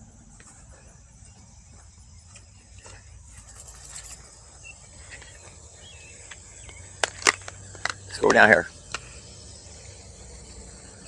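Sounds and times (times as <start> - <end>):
faint bird chirps: 0.0 - 11.0
high-pitched insect drone: 0.0 - 11.0.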